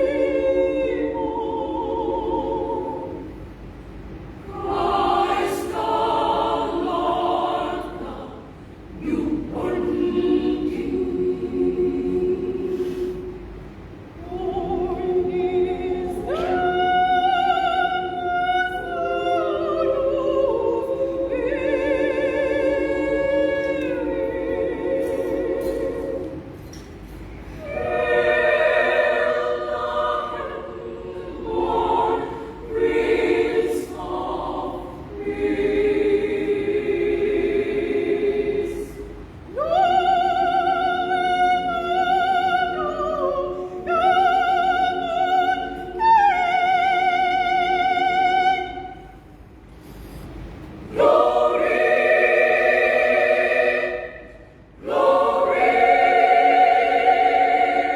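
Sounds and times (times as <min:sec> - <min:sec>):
women's choir singing: 0:00.0 - 0:49.3, 0:50.7 - 0:57.9.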